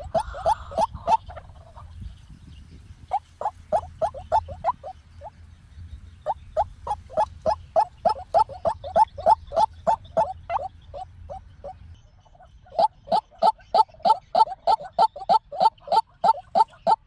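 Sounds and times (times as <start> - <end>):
bird croaking call: 0.0 - 1.8, 3.1 - 5.3, 6.2 - 17.0.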